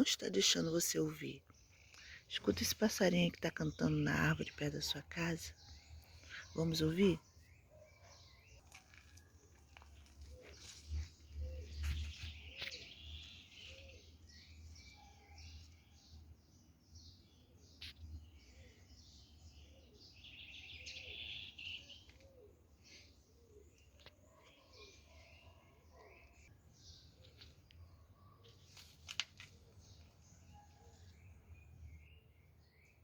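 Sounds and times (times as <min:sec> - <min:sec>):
birds chirping and twittering: 0:00.0 - 0:33.0.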